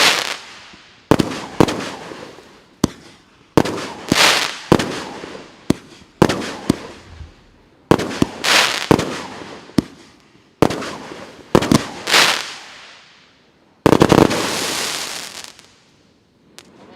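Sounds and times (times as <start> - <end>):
firework bangs: 0.0 - 13.1, 13.8 - 15.8
firework crackling: 0.0 - 16.9.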